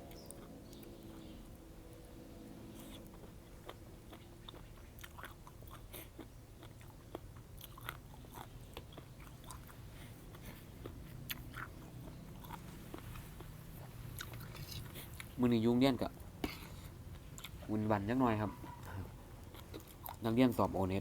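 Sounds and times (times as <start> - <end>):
person chewing and smacking: 0.0 - 1.3, 2.7 - 15.4, 16.4 - 17.8, 18.6 - 20.8
steady low hum: 0.0 - 21.0.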